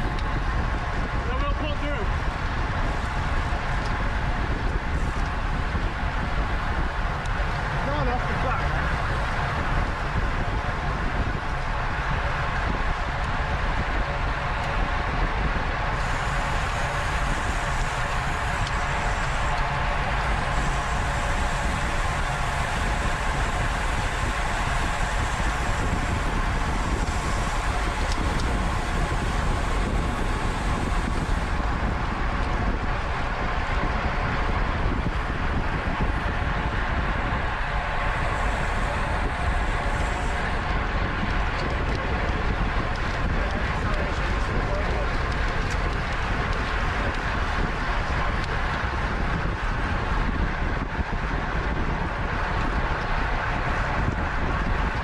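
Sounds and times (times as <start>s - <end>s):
bicycle tyre and road noise: 0.0s - 55.0s
wind rush on microphone: 0.0s - 55.0s.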